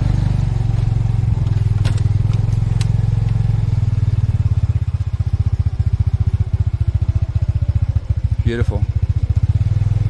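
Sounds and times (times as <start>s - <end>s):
motorbike engine idling: 0.0s - 10.0s.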